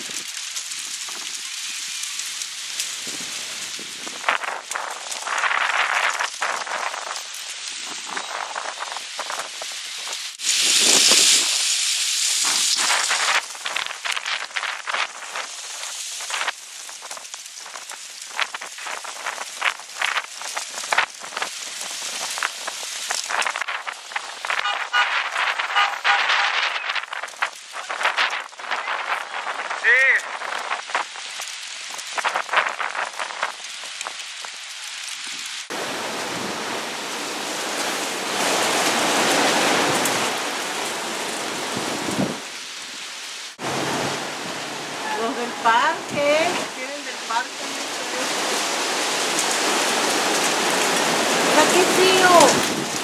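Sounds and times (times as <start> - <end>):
dust storm hiss: 0.0 - 53.0.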